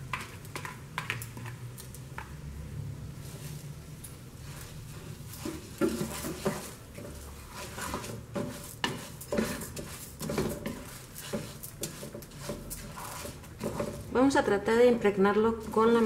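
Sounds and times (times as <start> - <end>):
wooden spoon scraping rice in pan: 0.0 - 2.3, 3.2 - 16.0.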